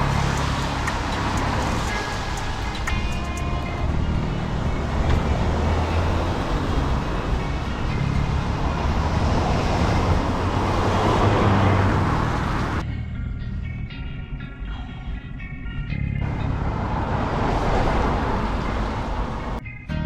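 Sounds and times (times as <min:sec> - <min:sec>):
road noise on wet road: 0:00.0 - 0:12.8, 0:16.2 - 0:19.6.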